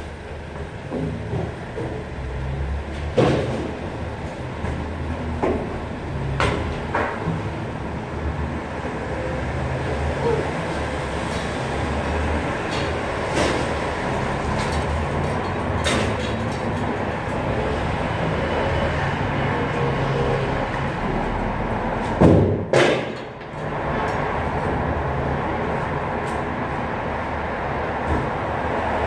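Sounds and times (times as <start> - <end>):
vehicle rumble: 0.0 - 29.0.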